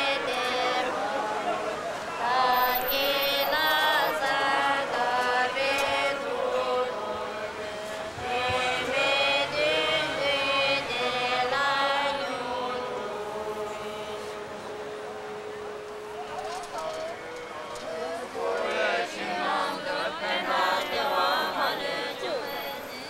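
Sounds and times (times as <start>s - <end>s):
voices singing a slow chant: 0.0s - 23.0s.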